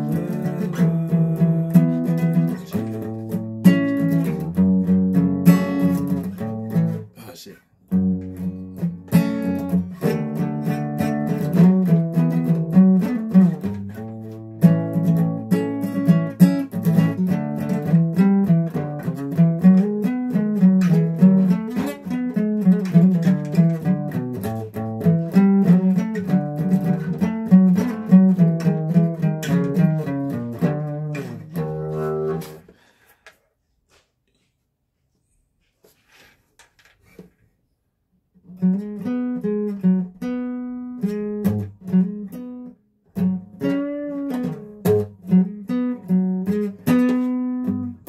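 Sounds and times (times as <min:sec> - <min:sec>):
acoustic guitar picking: 0:00.0 - 0:33.0, 0:38.5 - 0:48.0.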